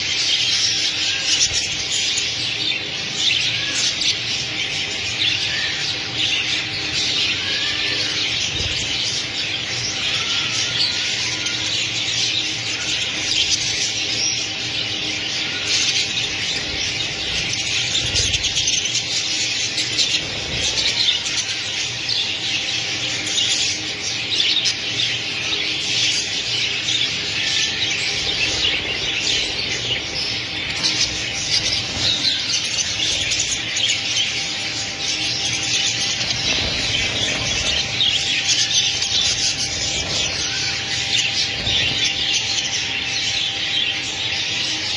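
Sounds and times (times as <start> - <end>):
budgerigars chirping: 0.0 - 44.9.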